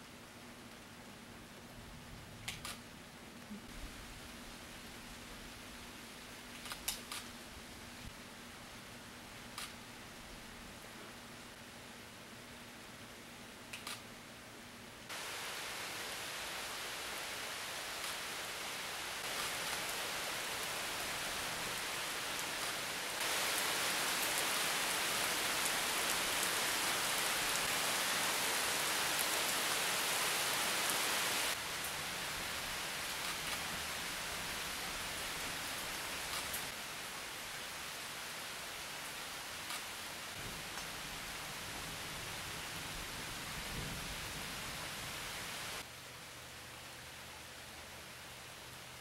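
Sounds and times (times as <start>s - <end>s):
rain hiss: 0.0s - 49.0s.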